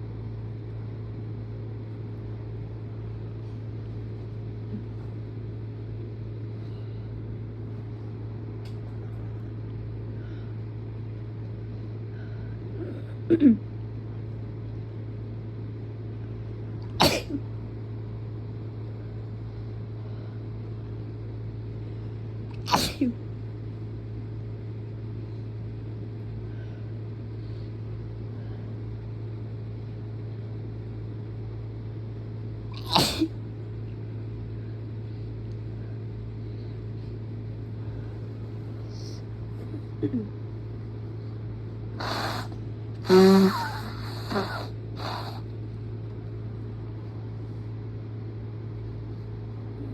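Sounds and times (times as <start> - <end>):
low mechanical hum: 0.0 - 49.9.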